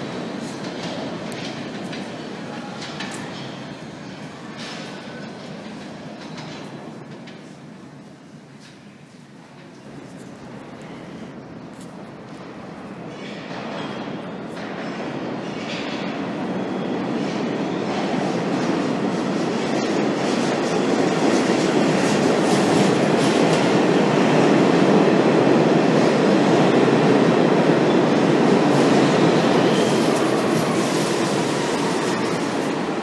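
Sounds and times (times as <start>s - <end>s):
subway train rumbling on rails: 0.0s - 33.0s.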